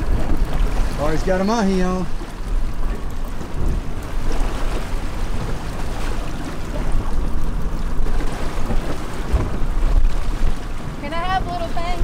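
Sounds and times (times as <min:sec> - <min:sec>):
water washing against boat hull: 0:00.0 - 0:12.0
wind buffeting the microphone: 0:00.0 - 0:12.0.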